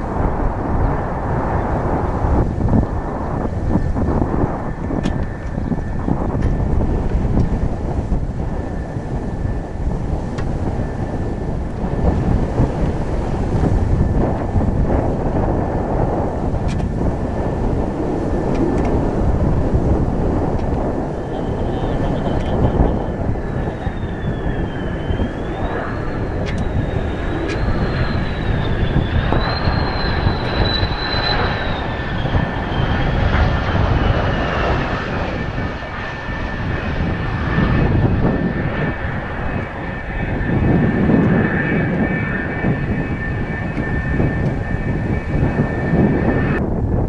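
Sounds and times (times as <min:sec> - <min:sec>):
jet engine roar with whine: 0:00.0 - 0:47.0
wind buffeting microphone: 0:00.0 - 0:47.0.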